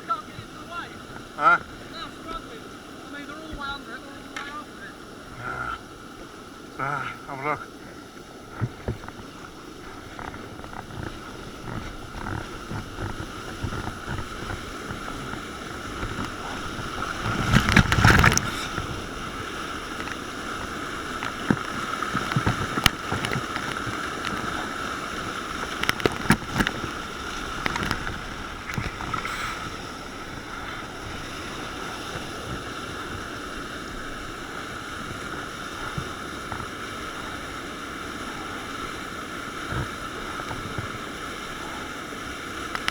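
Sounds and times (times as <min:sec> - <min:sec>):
paddle splashes: 0:00.0 - 0:42.9
rushing whitewater: 0:00.0 - 0:42.9.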